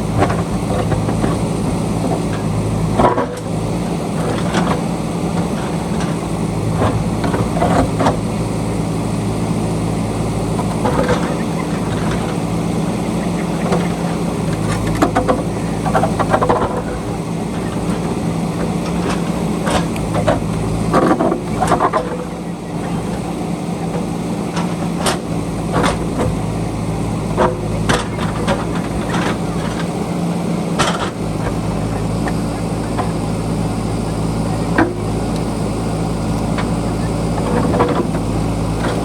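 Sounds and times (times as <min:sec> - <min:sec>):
diesel engine running under load: 0:00.0 - 0:39.0.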